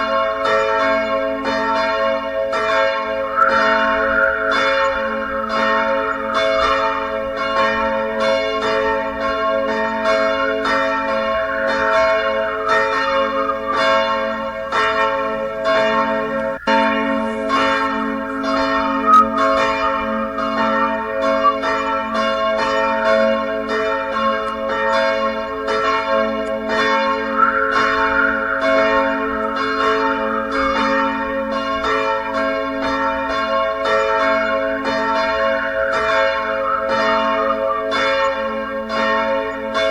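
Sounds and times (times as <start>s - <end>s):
church bells pealing: 0.0s - 39.9s
sustained hum: 3.1s - 39.9s.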